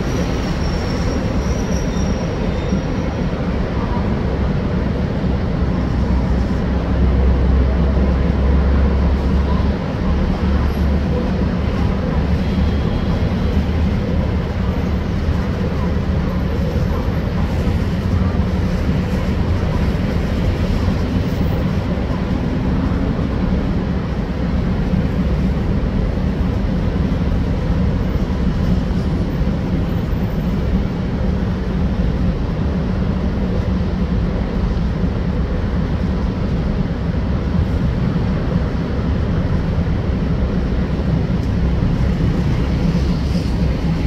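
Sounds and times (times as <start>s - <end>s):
railcar diesel engine drone: 0.0s - 44.0s.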